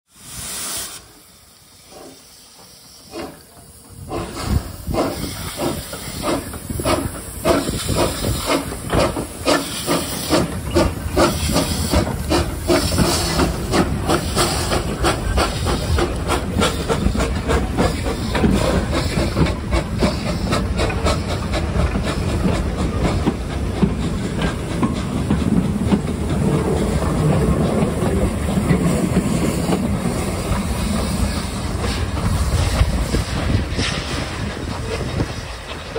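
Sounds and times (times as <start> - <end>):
hissing steam: 0.1 - 35.9
rolling train: 0.1 - 35.9
steam locomotive exhaust chuffs: 0.2 - 35.9.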